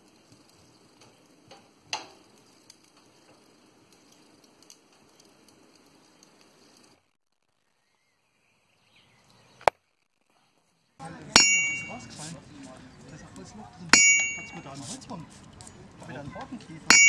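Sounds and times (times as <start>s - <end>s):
coals crackling in a stove: 0.0s - 17.0s.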